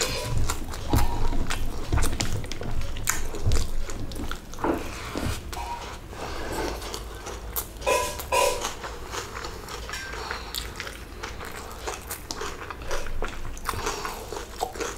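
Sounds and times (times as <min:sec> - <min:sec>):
wet chewing: 0:00.0 - 0:14.9.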